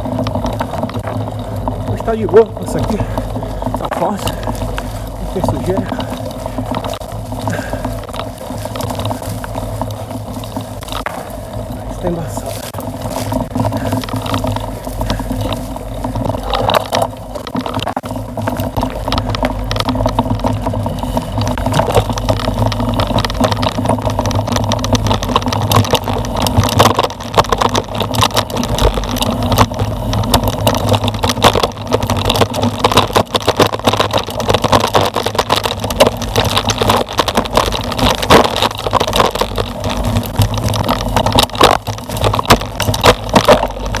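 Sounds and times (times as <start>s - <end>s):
bike rattling over bumps: 0.0s - 44.0s
bike tyres rolling over leaves: 0.0s - 44.0s
steady rumble: 0.0s - 44.0s.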